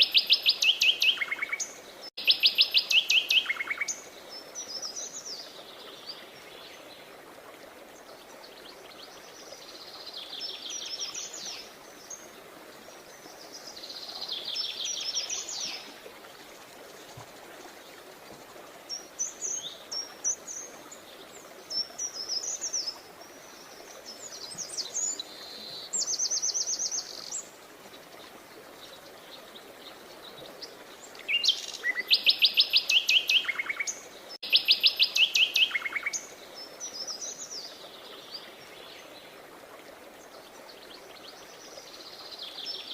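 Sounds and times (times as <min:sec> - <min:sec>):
songbirds singing: 0:00.0 - 0:07.2, 0:07.9 - 0:39.5.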